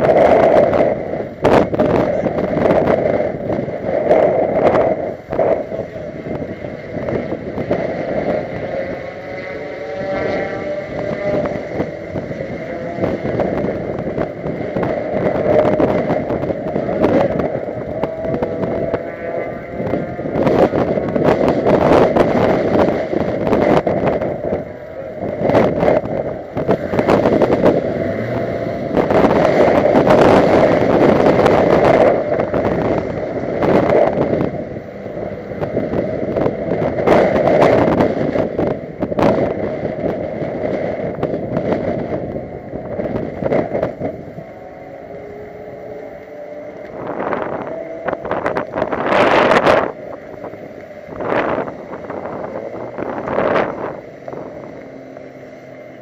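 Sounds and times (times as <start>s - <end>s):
car engine revving at speed: 0.0s - 56.0s
wind and road noise: 0.0s - 56.0s.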